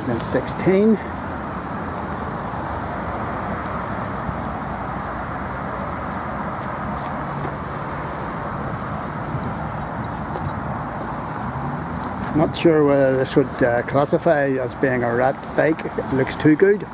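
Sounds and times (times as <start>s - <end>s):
passing cars: 0.0s - 16.9s.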